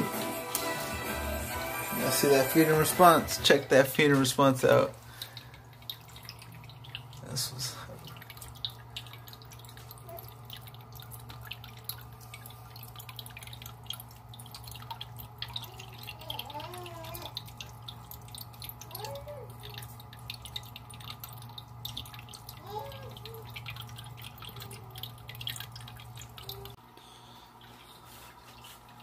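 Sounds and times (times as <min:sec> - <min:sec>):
water dripping and trickling: 0:02.1 - 0:29.0.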